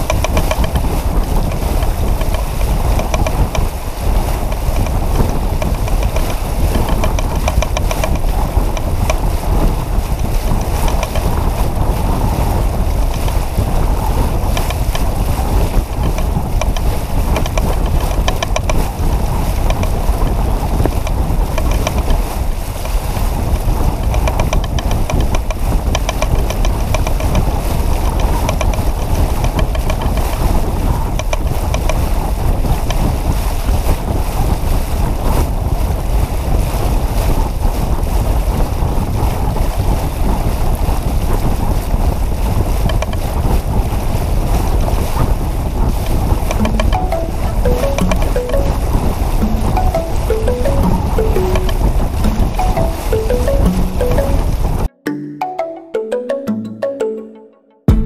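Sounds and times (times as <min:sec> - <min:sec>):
wind buffeting microphone: 0:00.0 - 0:50.1, 0:50.7 - 0:53.0
water rushing along a hull: 0:00.0 - 0:57.2.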